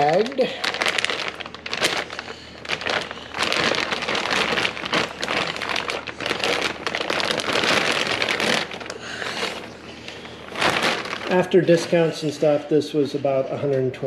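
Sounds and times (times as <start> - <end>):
plastic bag crinkling: 0.0 - 13.7.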